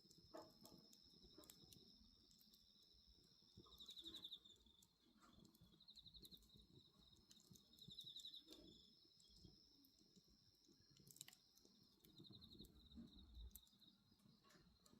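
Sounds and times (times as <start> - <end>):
bonfire crackling: 0.0 - 14.9
cricket trills: 0.0 - 14.9
insects chirring: 0.0 - 14.9.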